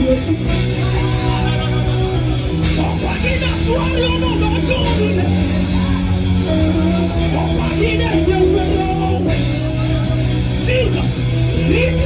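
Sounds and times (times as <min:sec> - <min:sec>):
held low bass notes: 0:00.0 - 0:12.0.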